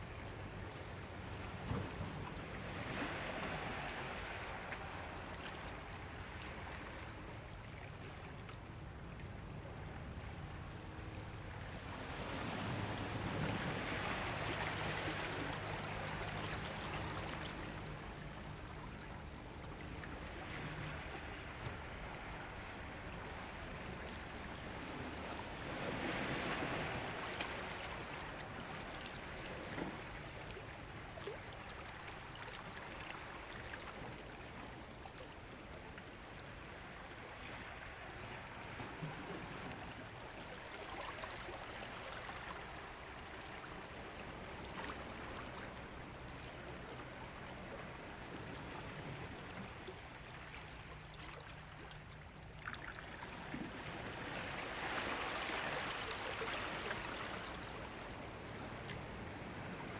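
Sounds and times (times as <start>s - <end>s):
water lapping at shore: 0.1s - 59.9s.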